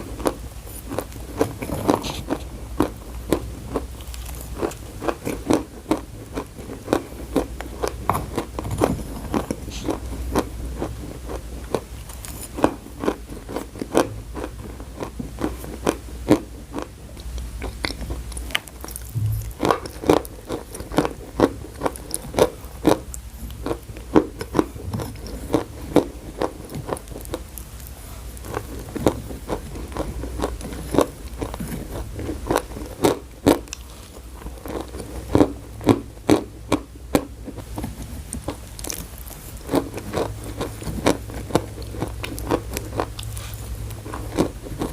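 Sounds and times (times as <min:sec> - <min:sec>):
person chewing chalk: 0:00.0 - 0:44.9.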